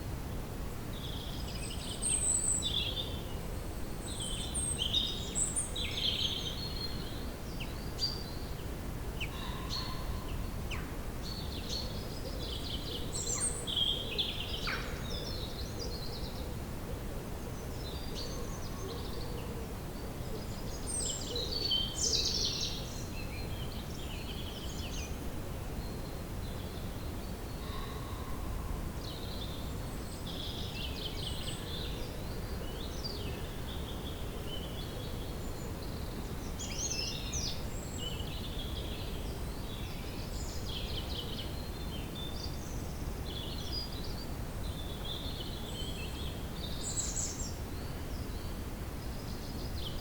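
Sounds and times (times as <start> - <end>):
songbirds chirping: 1.0 - 50.0.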